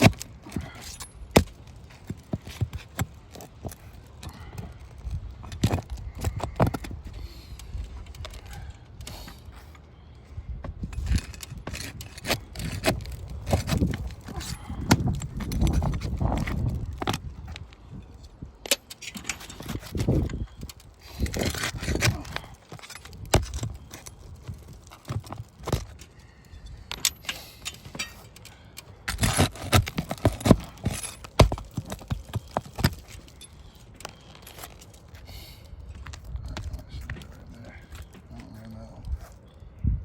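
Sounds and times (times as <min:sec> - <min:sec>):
tools tapping on roof shingles: 0:00.0 - 0:09.5, 0:10.8 - 0:17.8, 0:18.6 - 0:38.3.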